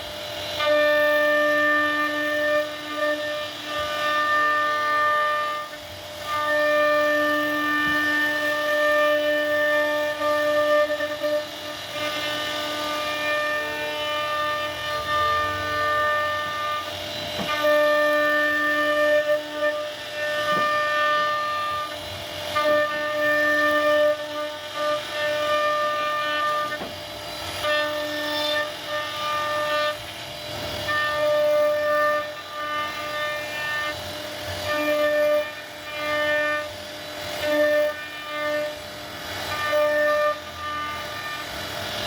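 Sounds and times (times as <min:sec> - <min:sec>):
router spindle whining carving wood: 0:00.0 - 0:42.0.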